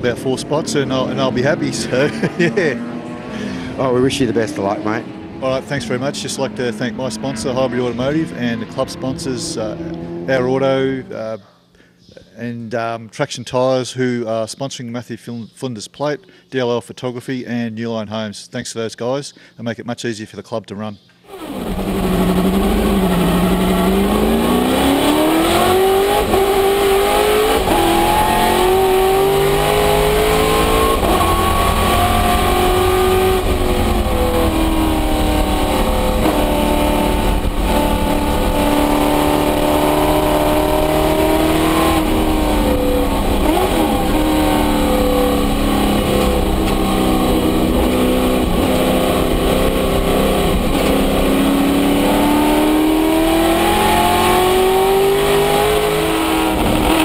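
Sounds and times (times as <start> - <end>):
race car engine revving: 0.0 - 11.1, 21.3 - 57.0.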